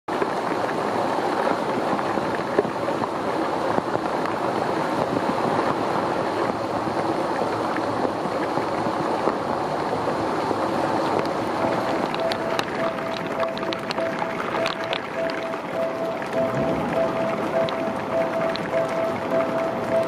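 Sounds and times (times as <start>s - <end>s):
heavy rain on stone: 0.1s - 20.0s.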